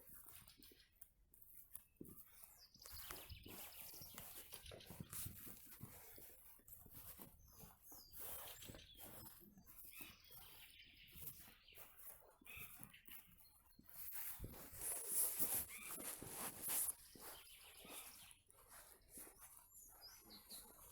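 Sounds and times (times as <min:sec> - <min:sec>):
small bird chirps: 0:01.9 - 0:06.2, 0:07.0 - 0:20.9.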